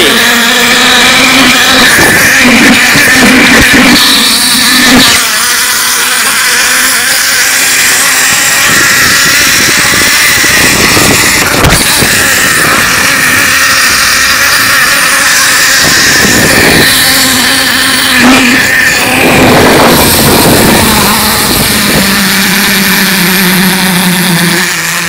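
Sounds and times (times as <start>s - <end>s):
pulleys whirring along cable: 0.0s - 25.0s
wind rushing over microphone: 1.4s - 5.3s, 7.8s - 24.0s.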